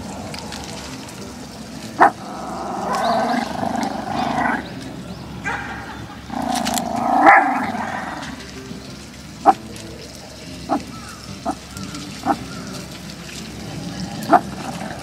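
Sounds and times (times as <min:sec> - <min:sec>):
dog growling: 0:00.0 - 0:08.5, 0:10.5 - 0:15.0.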